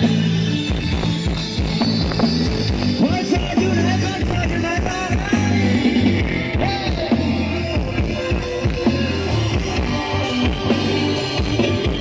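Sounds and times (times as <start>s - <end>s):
band music over loudspeakers: 0.0s - 12.0s.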